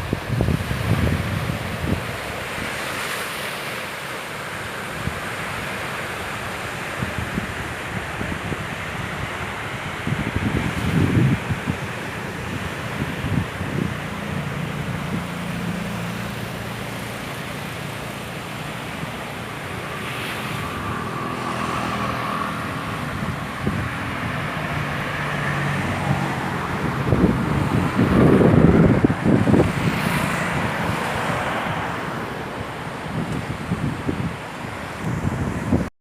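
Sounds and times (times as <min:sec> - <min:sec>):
wind on microphone: 0:00.0 - 0:03.3, 0:04.6 - 0:35.9
sea surf washing on shore: 0:00.0 - 0:35.9
passing vehicle motor hum: 0:05.1 - 0:35.9.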